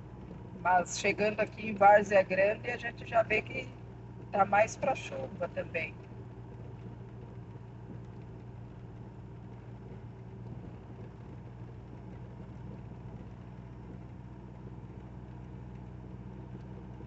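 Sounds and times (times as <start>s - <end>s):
engine low drone: 0.0s - 17.0s
road noise: 0.0s - 17.0s.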